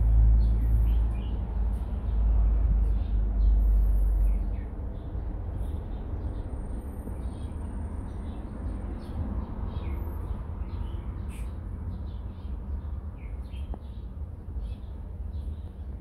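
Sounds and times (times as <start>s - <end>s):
small birds chirping: 0.4s - 16.0s.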